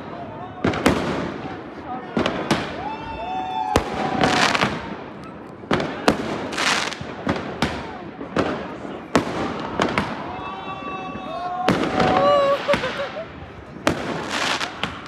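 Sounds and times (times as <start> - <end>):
firework bangs: 0.0 - 15.0.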